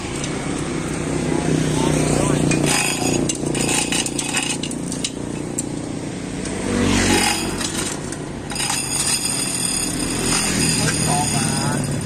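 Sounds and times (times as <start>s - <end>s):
vehicle engine running: 0.0s - 6.3s, 7.2s - 12.0s.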